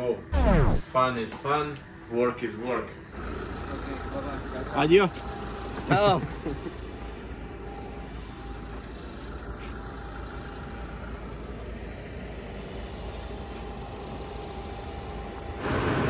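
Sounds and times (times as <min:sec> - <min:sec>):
jet engines rumbling: 0:00.3 - 0:16.0.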